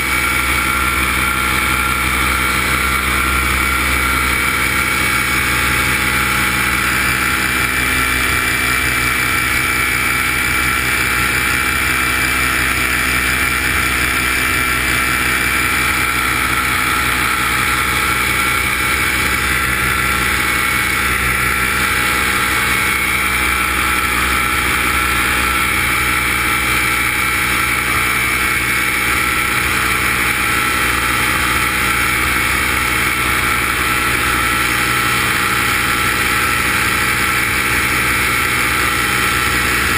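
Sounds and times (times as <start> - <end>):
electric motors and propellers whining: 0.0 - 39.9.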